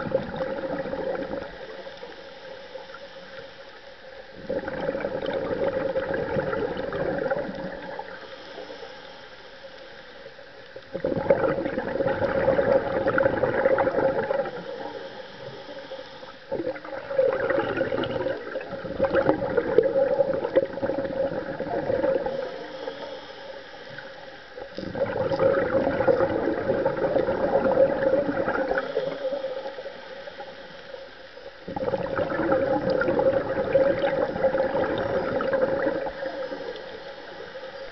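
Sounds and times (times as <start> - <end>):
exhaled bubbles underwater: 0.0 - 8.8, 9.8 - 37.9.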